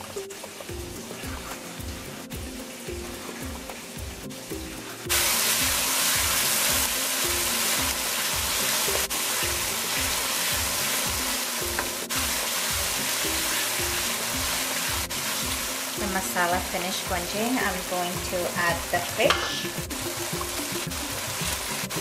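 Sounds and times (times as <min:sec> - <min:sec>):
curry paste sizzling in oil: 0:00.0 - 0:22.0
music with steady beat: 0:00.0 - 0:22.0.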